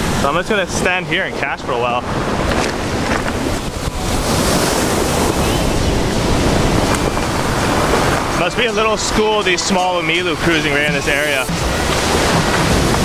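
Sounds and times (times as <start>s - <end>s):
surf washing over stones: 0.0s - 13.0s
wind buffeting microphone: 0.0s - 13.0s.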